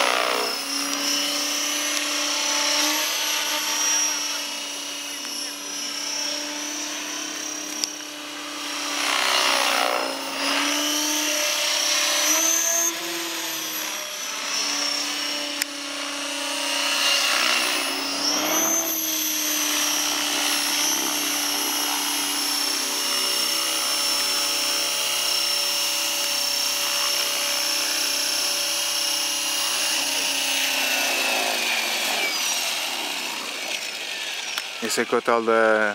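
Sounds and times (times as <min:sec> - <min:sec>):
rc helicopter motor and rotor whine: 0:00.0 - 0:35.9.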